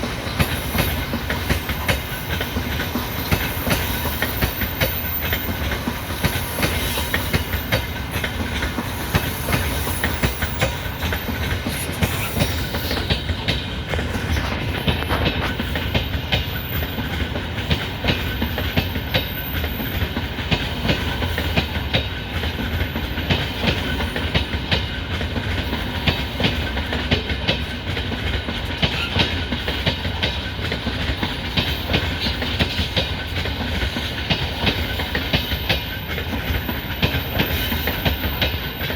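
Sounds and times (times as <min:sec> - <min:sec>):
train rolling rumble: 0:00.0 - 0:38.9
train wheels clacking on rail joints: 0:00.0 - 0:38.9.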